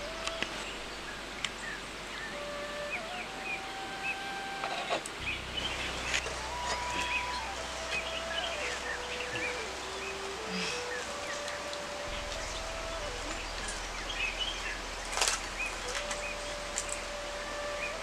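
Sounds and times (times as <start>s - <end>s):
outdoor background noise: 0.0s - 18.0s
slow melody of held notes: 0.0s - 18.0s
small birds chirping: 0.0s - 18.0s.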